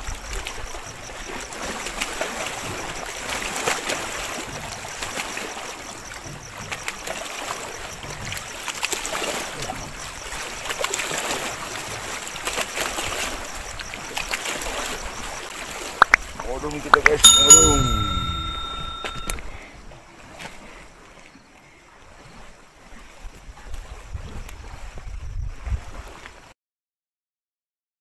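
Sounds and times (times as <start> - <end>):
waves lapping at the shore: 0.0 - 16.0, 20.0 - 26.5.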